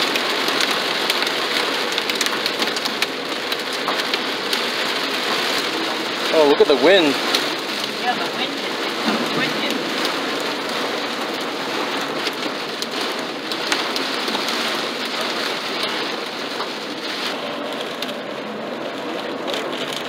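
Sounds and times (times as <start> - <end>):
heavy rain on car roof: 0.0 - 20.0.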